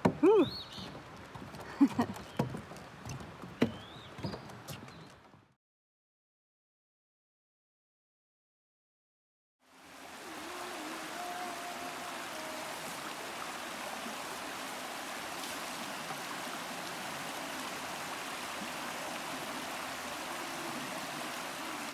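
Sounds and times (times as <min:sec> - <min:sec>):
stream running over rocks: 0:00.0 - 0:05.3, 0:09.6 - 0:21.9.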